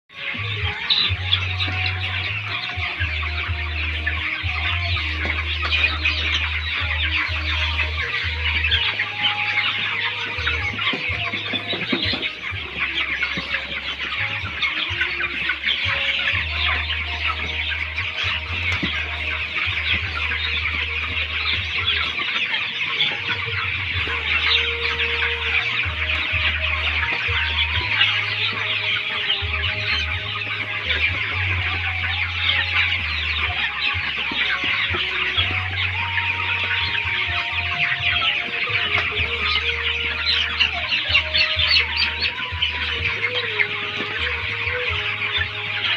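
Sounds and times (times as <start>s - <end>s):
chicks peeping and cheeping: 0.0s - 45.9s.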